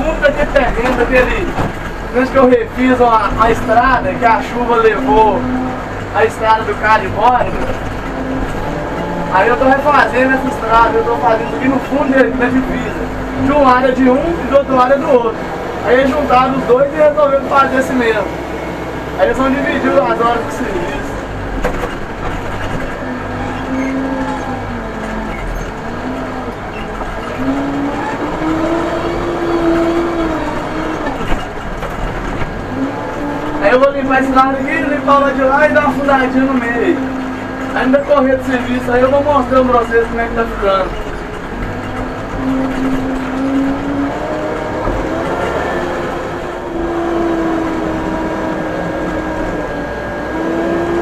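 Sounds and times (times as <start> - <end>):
backhoe diesel engine under load: 0.0 - 51.0
whining tone: 0.0 - 51.0.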